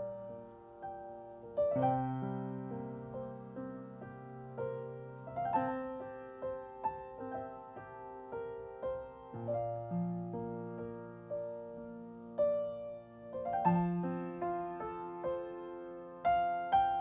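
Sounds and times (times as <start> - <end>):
slow gentle piano piece: 0.0 - 17.0.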